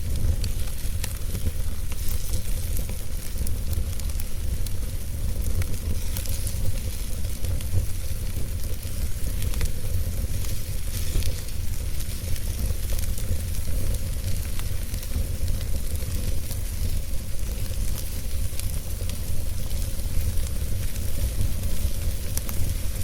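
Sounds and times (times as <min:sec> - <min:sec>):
fire crackles and pops: 0:00.0 - 0:23.0
steady low rumble: 0:00.0 - 0:23.0
wood fire hissing: 0:00.0 - 0:23.0.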